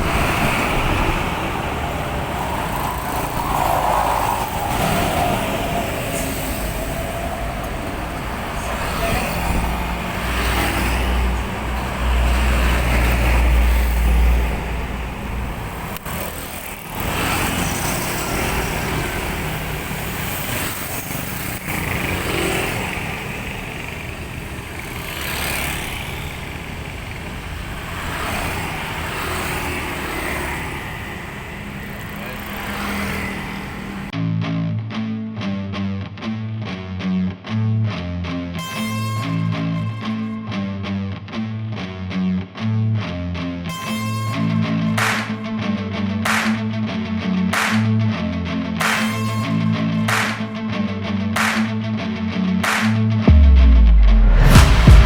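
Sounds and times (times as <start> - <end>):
road traffic: 0.0 - 34.1, 38.6 - 40.5, 43.7 - 50.7, 51.4 - 51.9, 52.5 - 55.0.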